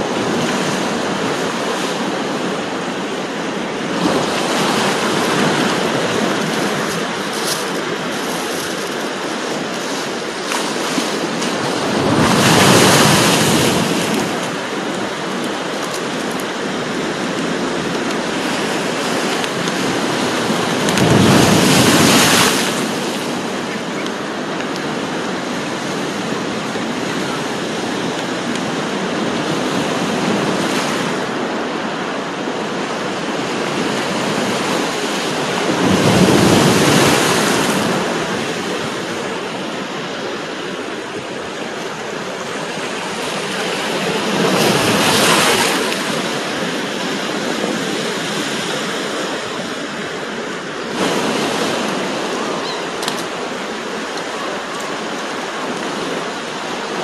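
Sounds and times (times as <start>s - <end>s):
sea waves washing against rocks: 0.0s - 57.0s.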